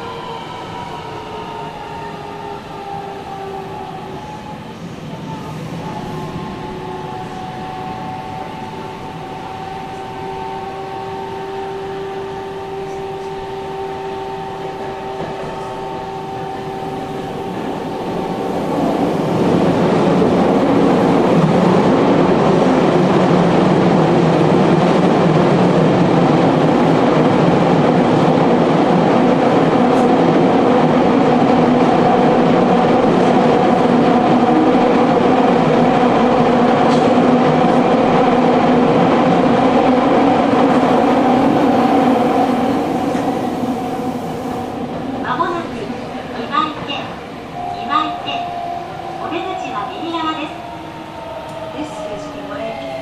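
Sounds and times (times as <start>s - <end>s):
train wheels rumbling in tunnel: 0.0s - 53.0s.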